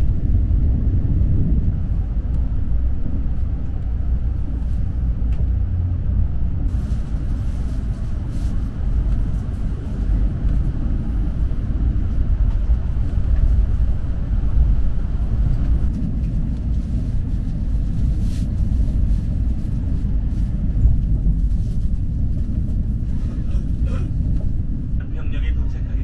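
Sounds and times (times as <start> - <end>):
train rumble inside cabin: 0.0 - 26.0.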